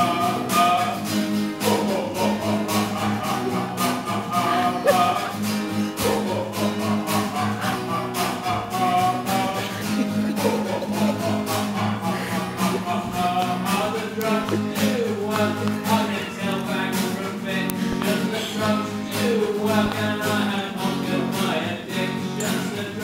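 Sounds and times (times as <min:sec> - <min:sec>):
acoustic guitar strumming: 0:00.0 - 0:23.0
man singing: 0:00.0 - 0:23.0.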